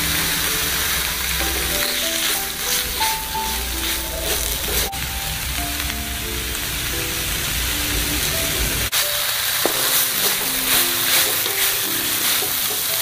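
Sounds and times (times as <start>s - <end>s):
background music of held notes: 0.0s - 13.0s
food sizzling in a wok: 0.0s - 13.0s.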